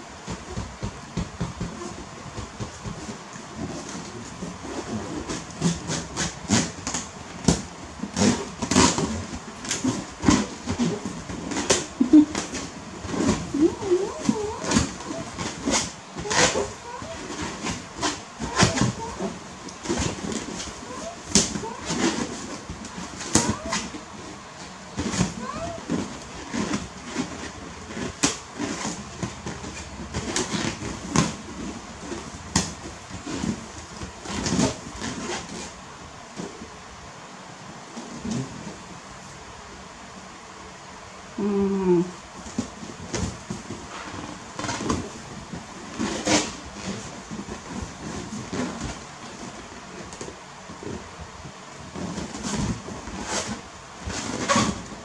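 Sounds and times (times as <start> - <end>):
hands rubbing rubber balloon: 0.0 - 35.8, 42.4 - 55.0.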